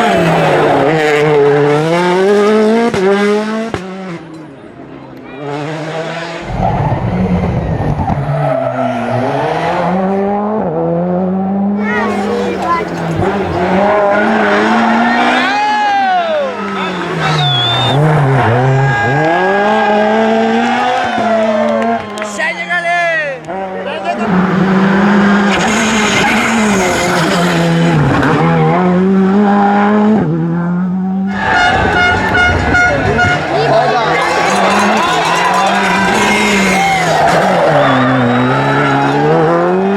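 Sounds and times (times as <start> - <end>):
rally car engine accelerating: 0.0 - 22.2, 23.4 - 39.9.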